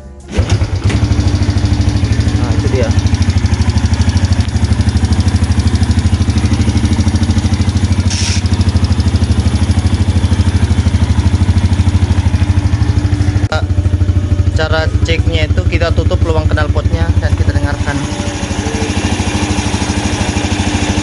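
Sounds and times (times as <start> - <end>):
engine ticking: 0.3 - 21.0
motorcycle engine idling: 0.3 - 21.0.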